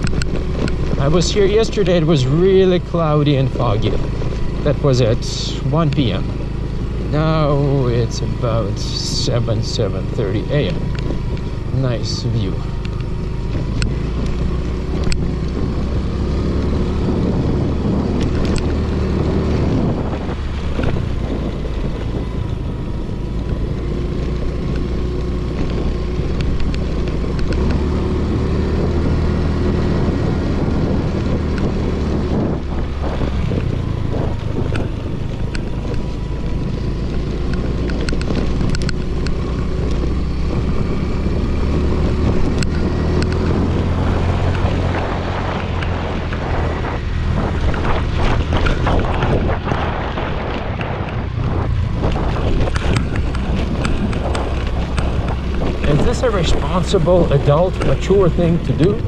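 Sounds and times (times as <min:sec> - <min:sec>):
scooter engine running: 0:00.0 - 0:59.0
wind buffeting microphone: 0:00.0 - 0:59.0.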